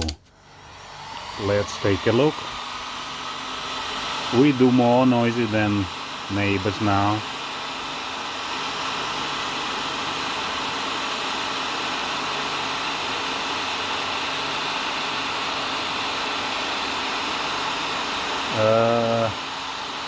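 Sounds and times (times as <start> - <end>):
heat gun blowing: 0.0 - 20.0.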